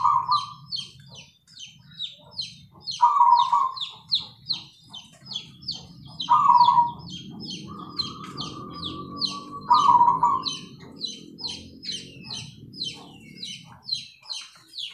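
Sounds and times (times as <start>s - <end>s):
doves cooing: 0.0s - 14.9s.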